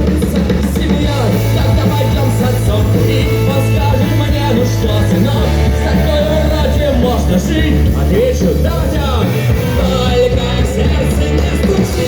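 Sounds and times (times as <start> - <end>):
heavy bass line: 0.0 - 12.0
rock music: 0.0 - 12.0
singing: 0.0 - 12.0.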